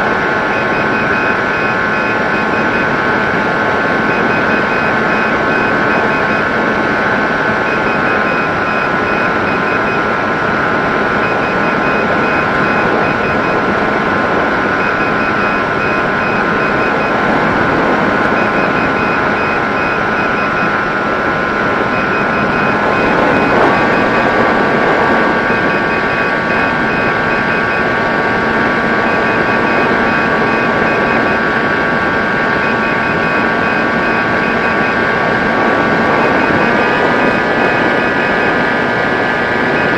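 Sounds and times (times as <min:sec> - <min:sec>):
electric motor and propeller whine: 0:00.0 - 0:39.9
rushing air: 0:01.4 - 0:39.9.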